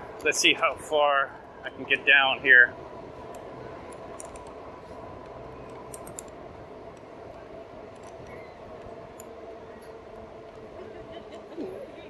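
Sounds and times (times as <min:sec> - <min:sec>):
electric bike hum: 0:00.0 - 0:12.0.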